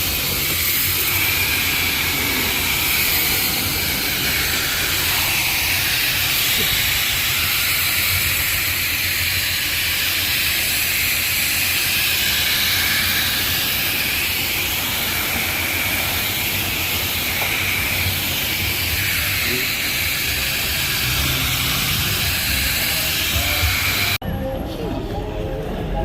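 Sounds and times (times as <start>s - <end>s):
pressure washer spraying water: 0.0s - 24.2s.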